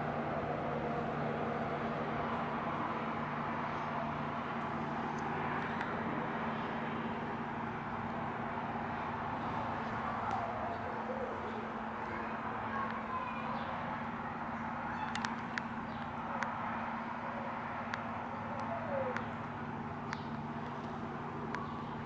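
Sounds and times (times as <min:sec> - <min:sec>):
background hum: 0:00.0 - 0:22.0.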